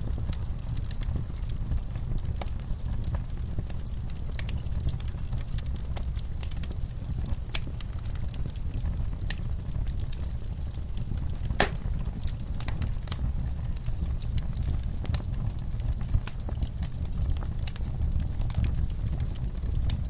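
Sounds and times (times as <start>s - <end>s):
fire crackles and pops: 0.0s - 20.0s
low rumble of flames: 0.0s - 20.0s.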